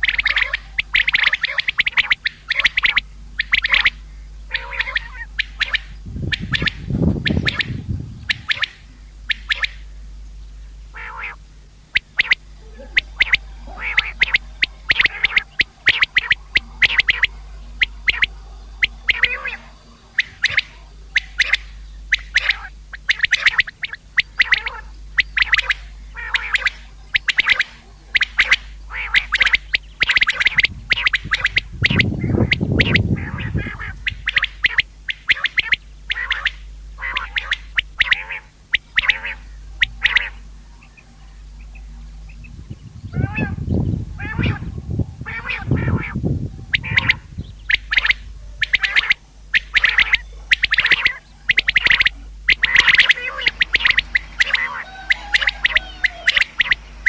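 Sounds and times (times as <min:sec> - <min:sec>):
quail calling: 0:00.0 - 0:57.0
steady low hum: 0:00.0 - 0:57.0.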